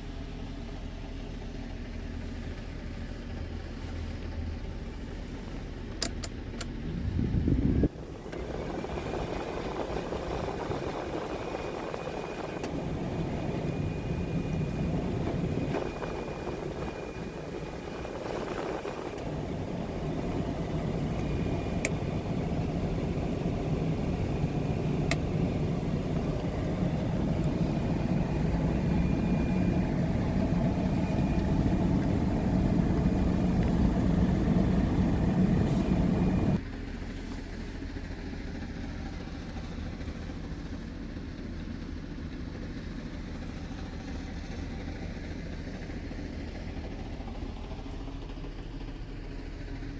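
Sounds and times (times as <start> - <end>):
diesel truck engine idling: 0.0 - 49.9
faint steady whine: 0.0 - 49.9.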